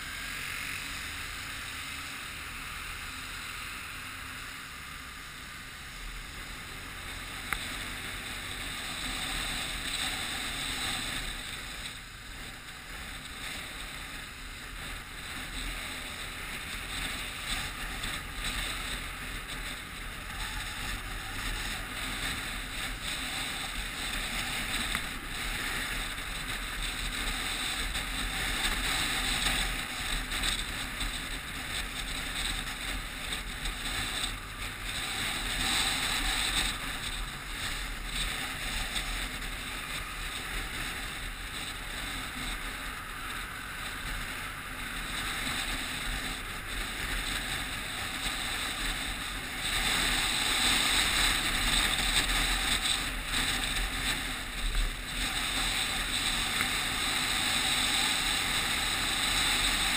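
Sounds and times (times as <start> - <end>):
passing vehicles: 0.0 - 59.9
wind and road noise: 0.0 - 59.9.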